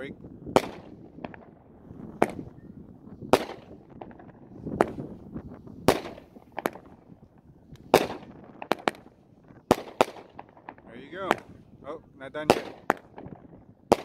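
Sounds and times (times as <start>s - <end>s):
firework shells bursting: 0.5s - 2.6s, 3.3s - 11.7s, 12.4s - 14.0s.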